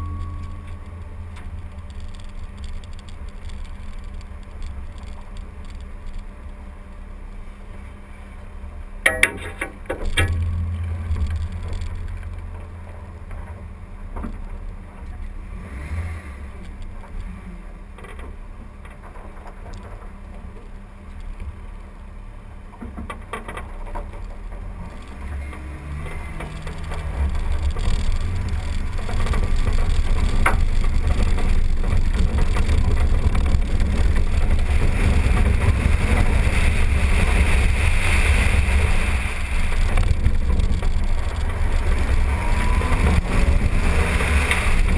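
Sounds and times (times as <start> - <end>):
engine and tyre rumble: 0.0 - 44.9.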